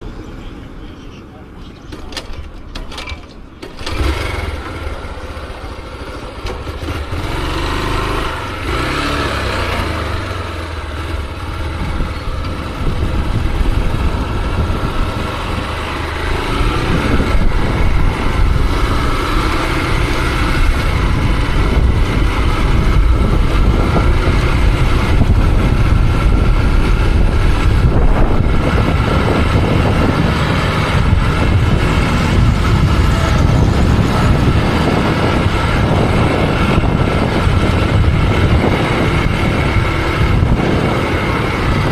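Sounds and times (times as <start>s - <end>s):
motorcycle engine starting and running: 1.7s - 41.9s.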